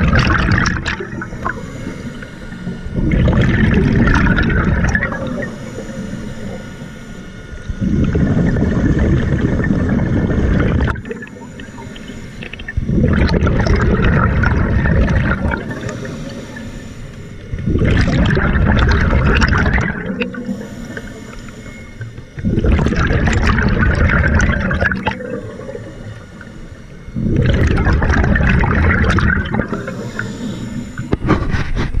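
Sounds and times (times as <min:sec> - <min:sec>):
exhaled bubbles rushing: 0:00.0 - 0:06.7, 0:07.4 - 0:16.6, 0:17.5 - 0:21.2, 0:22.0 - 0:31.7
hissing regulator inhale: 0:00.0 - 0:32.0.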